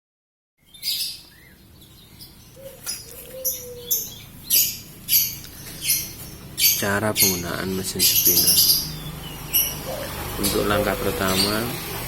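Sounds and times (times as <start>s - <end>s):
birds chirping: 0.6s - 12.0s.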